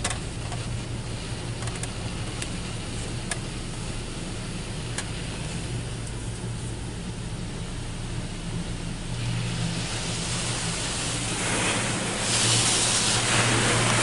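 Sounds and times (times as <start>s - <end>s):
car wash spraying water: 0.0s - 14.0s.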